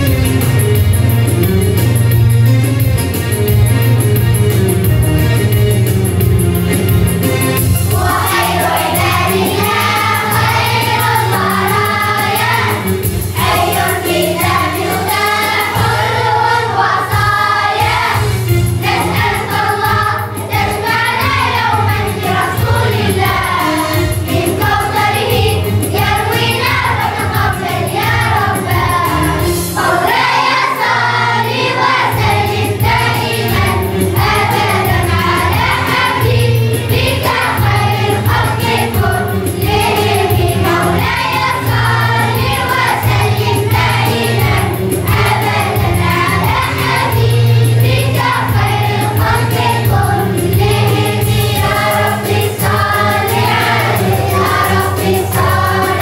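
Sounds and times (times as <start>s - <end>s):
instrumental accompaniment with low bass: 0.0s - 56.0s
children's choir singing: 7.6s - 56.0s.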